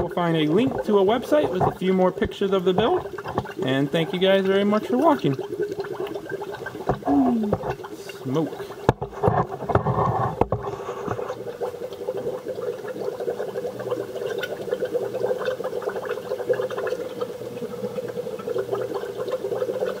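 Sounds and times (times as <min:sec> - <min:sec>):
smoke machine crackling gurgle: 0:00.0 - 0:20.0.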